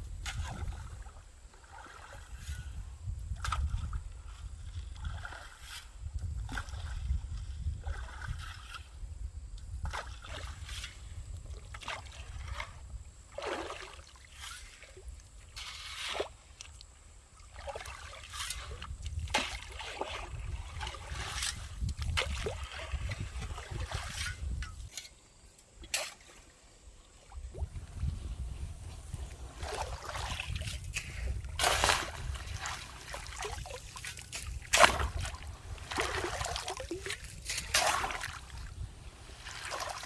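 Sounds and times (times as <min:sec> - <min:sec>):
water splashing in a stream: 0:00.3 - 0:08.9, 0:09.9 - 0:24.6, 0:25.8 - 0:40.0.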